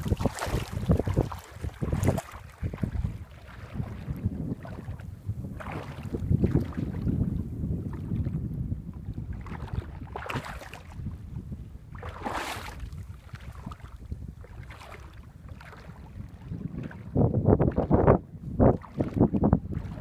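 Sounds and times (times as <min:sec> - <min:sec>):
boat engine low rumble: 0:00.0 - 0:20.0
wind buffeting microphone: 0:00.0 - 0:20.0.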